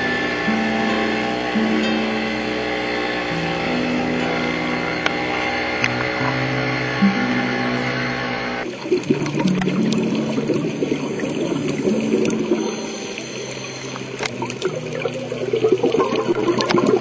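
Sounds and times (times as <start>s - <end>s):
underwater bubbling and gurgling: 2.9s - 17.0s.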